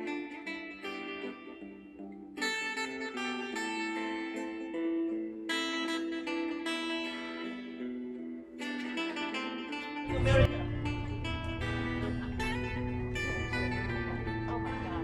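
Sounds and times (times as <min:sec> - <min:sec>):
plucked acoustic guitar melody: 0:00.0 - 0:15.0.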